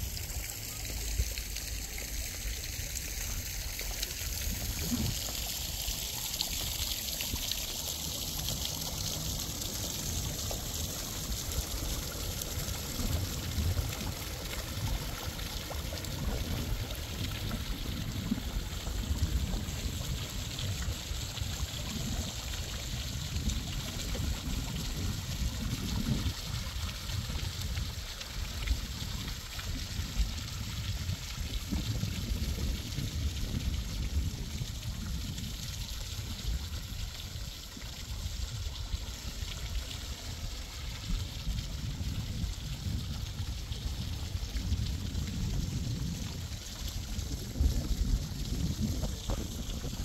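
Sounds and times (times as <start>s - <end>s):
fountain water trickling: 0.0s - 50.0s
low uneven rumble: 0.0s - 50.0s.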